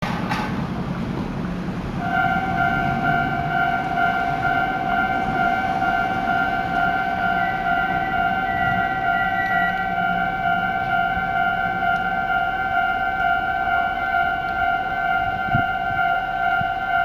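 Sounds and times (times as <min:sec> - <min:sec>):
higher warning tone: 0:02.0 - 0:17.0
level crossing warning bell: 0:02.0 - 0:17.0.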